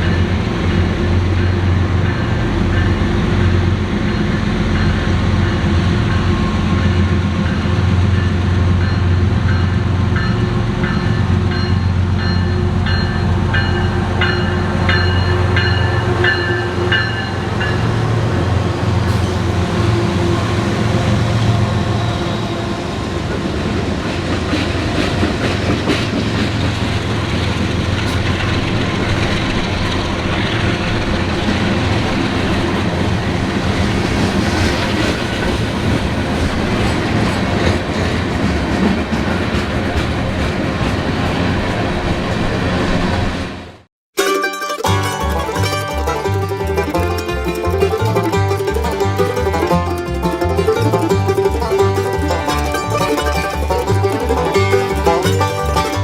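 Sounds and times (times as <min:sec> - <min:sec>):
wheels clacking over rail joints: 0:00.0 - 0:22.4, 0:23.0 - 0:43.4, 0:44.9 - 0:56.0
diesel locomotive droning: 0:00.0 - 0:43.9, 0:44.9 - 0:56.0.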